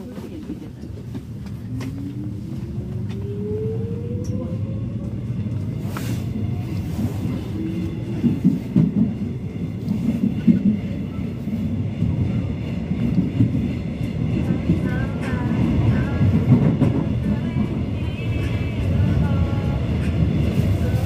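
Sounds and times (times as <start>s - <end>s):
wheels rumbling on track: 0.0s - 21.0s
subway train motor whine: 0.8s - 21.0s.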